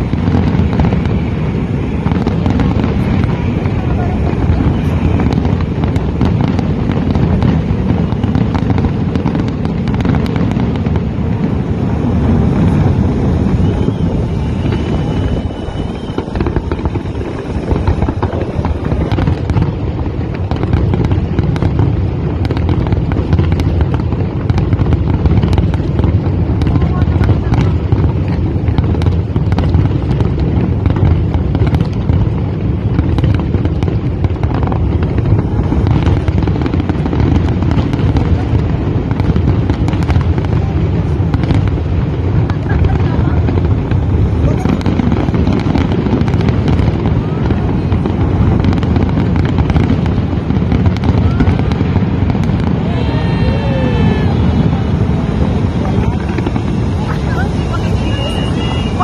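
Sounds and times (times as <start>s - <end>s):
fireworks booming and crackling: 0.0s - 59.0s
people's voices: 1.1s - 10.4s, 11.2s - 21.4s, 22.2s - 31.0s, 34.5s - 59.0s.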